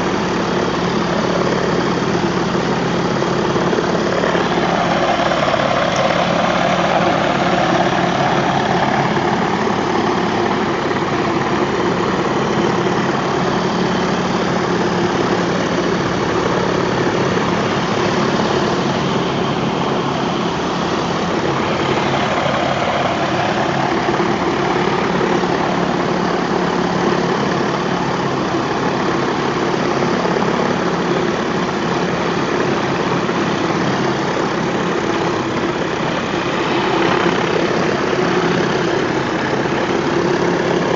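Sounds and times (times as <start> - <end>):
engine hum: 0.0 - 40.9.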